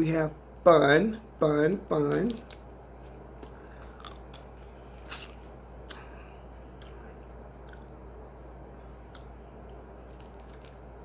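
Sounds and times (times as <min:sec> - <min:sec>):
steady low hum: 0:00.0 - 0:11.0
person chewing food: 0:02.0 - 0:11.0.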